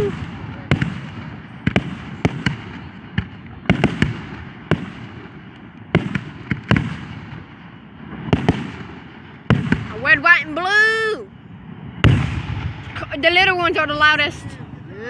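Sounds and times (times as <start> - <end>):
fireworks bangs: 0.0 - 15.0
rumble of fireworks bursts: 0.0 - 15.0.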